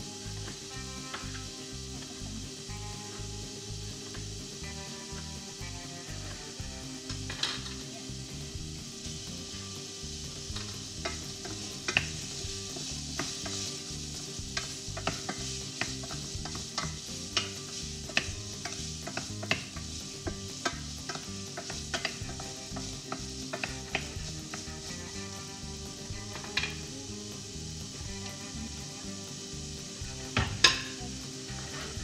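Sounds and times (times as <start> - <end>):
food sizzling in a pan: 0.0 - 32.0.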